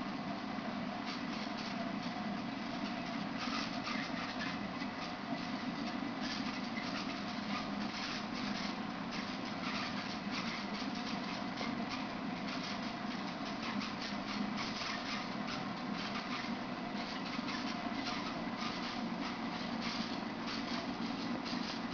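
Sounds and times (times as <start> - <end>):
aquarium pump hum: 0.0 - 21.9.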